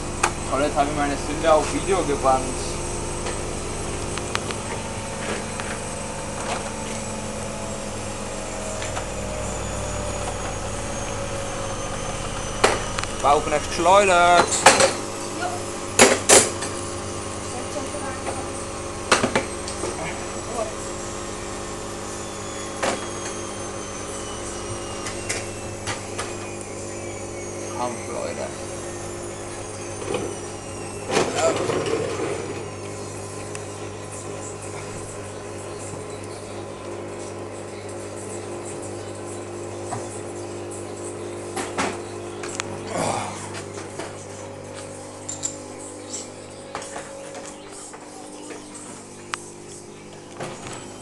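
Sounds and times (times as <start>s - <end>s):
rising whine: 0.0s - 51.0s
washing machine running: 0.0s - 51.0s.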